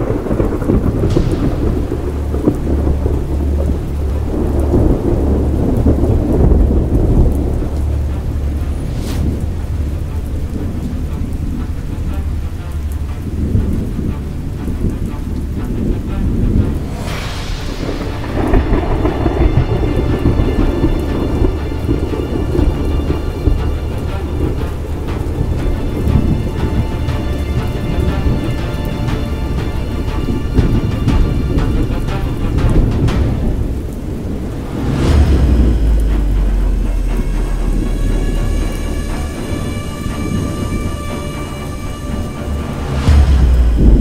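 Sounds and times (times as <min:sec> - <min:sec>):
sharp thunderclap: 0:00.0 - 0:10.9, 0:13.2 - 0:41.9, 0:42.7 - 0:44.0
rolling thunder: 0:00.0 - 0:44.0
steady rain: 0:00.0 - 0:44.0.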